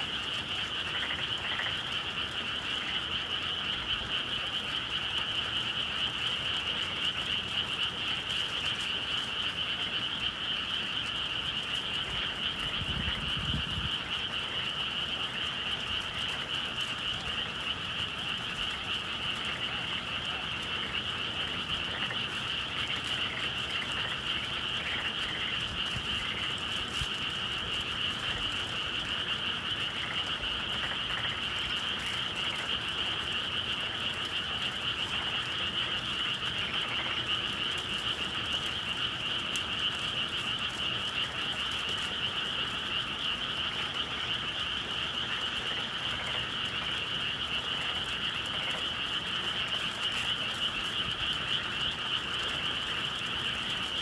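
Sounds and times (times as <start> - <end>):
chorus of frogs calling: 0.0 - 54.0.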